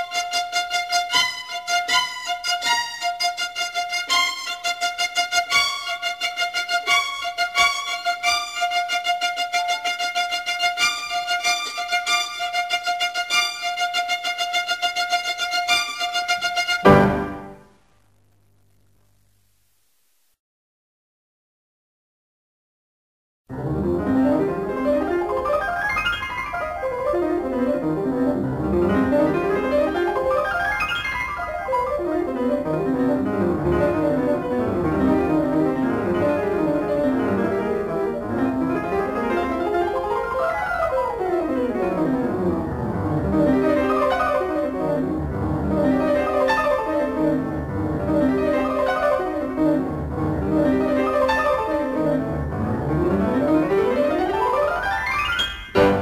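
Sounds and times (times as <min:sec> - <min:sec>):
pianos playing fast scales: 0:00.0 - 0:17.6, 0:23.5 - 0:56.0.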